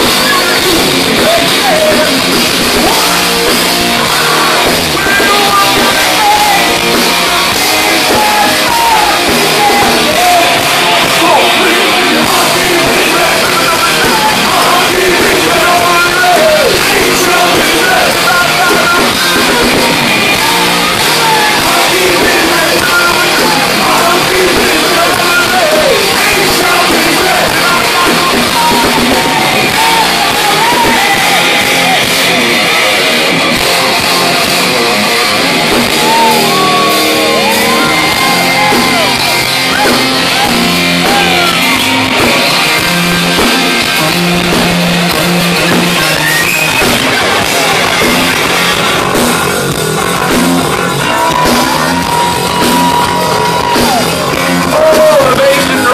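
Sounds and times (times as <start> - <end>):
bass guitar: 0.0 - 55.9
drums: 0.0 - 55.9
electric guitars: 0.0 - 55.9.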